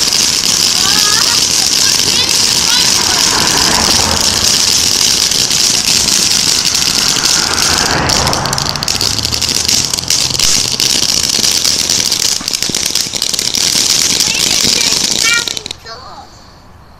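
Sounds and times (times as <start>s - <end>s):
fountain firework hissing and crackling: 0.0s - 16.6s.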